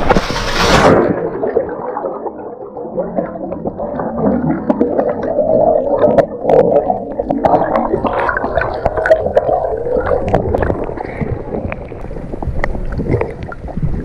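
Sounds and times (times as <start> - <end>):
underwater bubbling and gurgling: 0.0 - 14.0.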